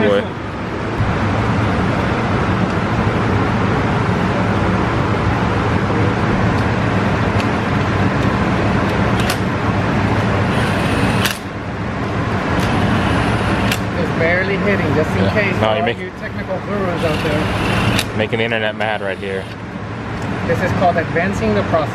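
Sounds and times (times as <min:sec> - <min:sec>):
loud machine hum: 0:00.0 - 0:20.6.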